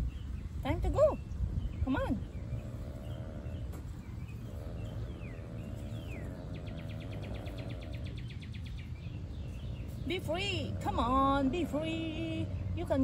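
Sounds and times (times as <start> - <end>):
faint droning hum: 0.0 - 13.0
low rumble: 0.0 - 13.0.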